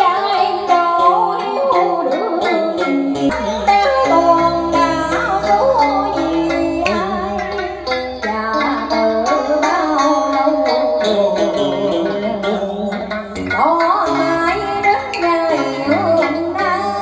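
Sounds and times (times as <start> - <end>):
plucked lute melody: 0.0 - 17.0.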